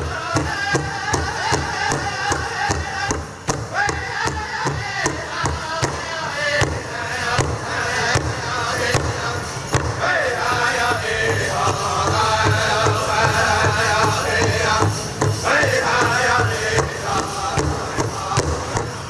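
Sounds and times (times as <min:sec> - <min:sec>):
big drum steady beat: 0:00.0 - 0:19.0
people chanting in high voices: 0:00.0 - 0:19.0.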